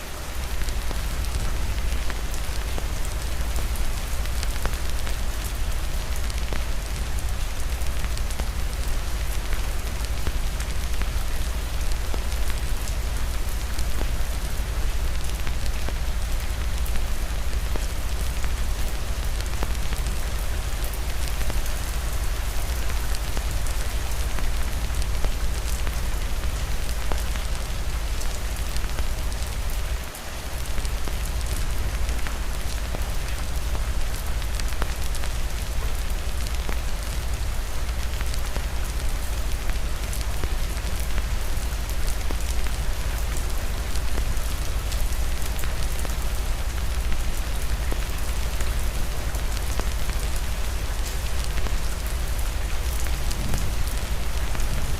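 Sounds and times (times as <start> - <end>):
constant low rumble: 0.0 - 54.9
heavy rain: 0.0 - 54.9.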